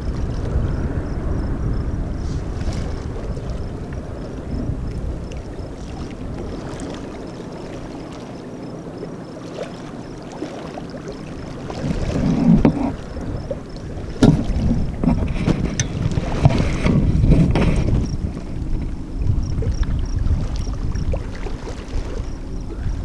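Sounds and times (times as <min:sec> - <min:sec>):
small waves lapping: 0:00.0 - 0:23.0
wind buffeting microphone: 0:00.0 - 0:23.0.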